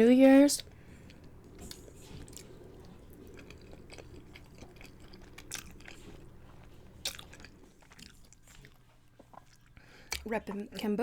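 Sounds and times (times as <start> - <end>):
person chewing with mouth clicks: 0.6 - 10.3.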